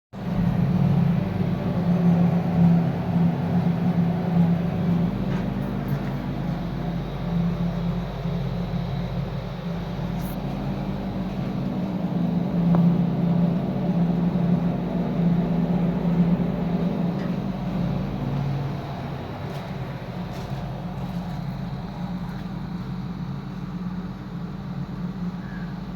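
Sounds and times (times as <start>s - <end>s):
air compressor humming: 0.1s - 25.0s.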